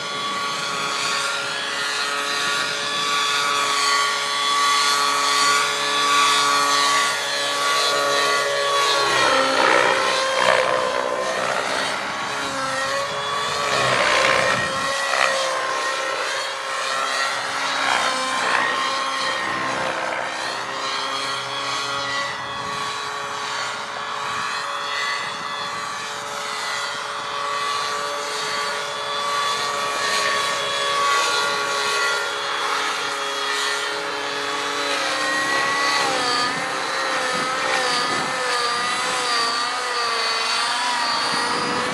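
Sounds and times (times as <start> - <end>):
model helicopter motor and rotor: 0.0 - 41.9.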